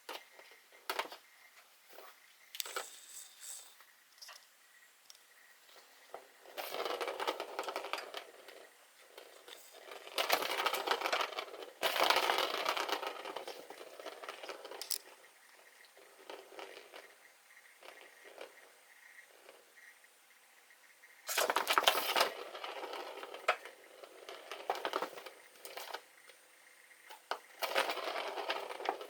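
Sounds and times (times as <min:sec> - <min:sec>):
small scrapes and ticks: 0:00.1 - 0:20.0, 0:20.6 - 0:29.0.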